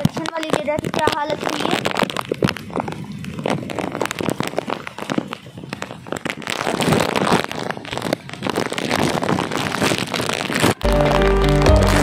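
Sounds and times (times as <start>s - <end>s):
rain pattering: 0.0s - 12.0s
steady rain hiss: 0.0s - 12.0s.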